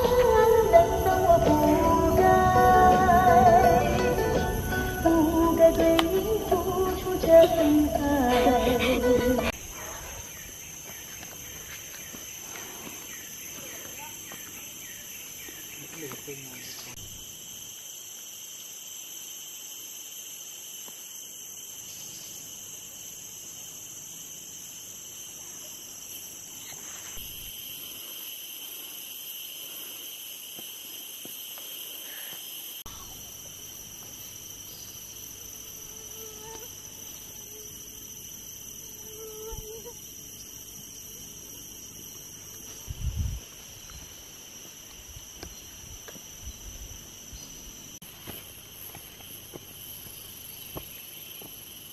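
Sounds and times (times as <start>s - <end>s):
insects droning and trilling: 0.0s - 51.9s.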